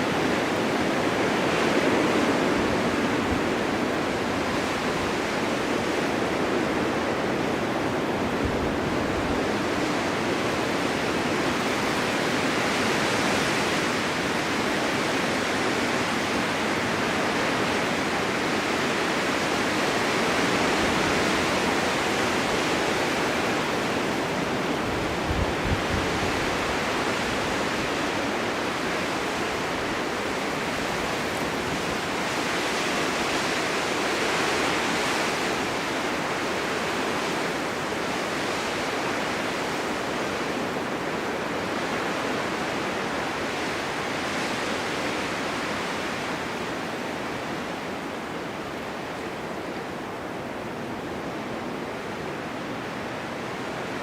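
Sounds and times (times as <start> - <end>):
blizzard wind blowing snow: 0.0 - 54.0.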